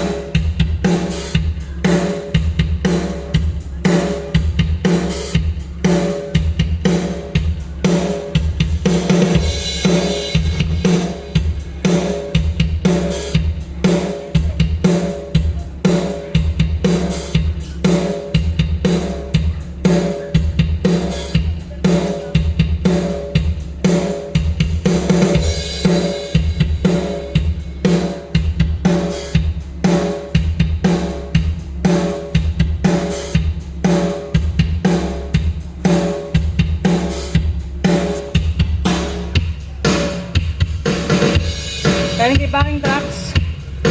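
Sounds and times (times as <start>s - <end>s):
drum kit playing rock beat: 0.0s - 43.9s.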